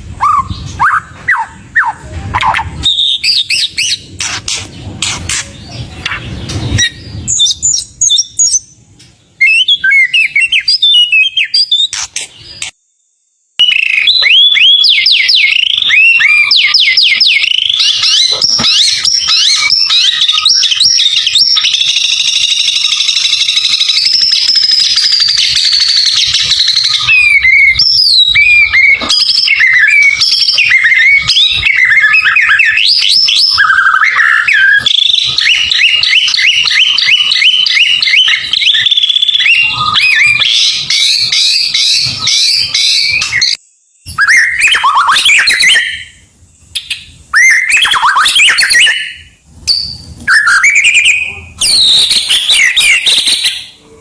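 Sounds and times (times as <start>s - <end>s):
bird singing varied song: 0.0s - 12.8s, 13.6s - 54.0s.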